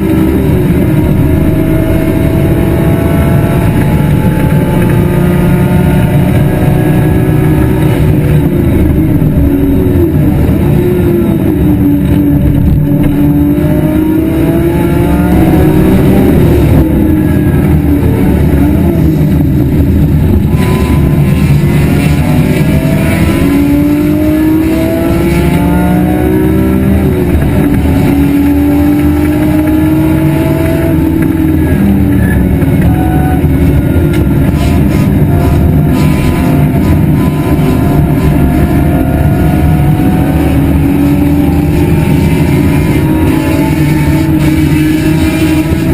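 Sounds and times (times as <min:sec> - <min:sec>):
car engine running hard: 0:00.0 - 0:45.9.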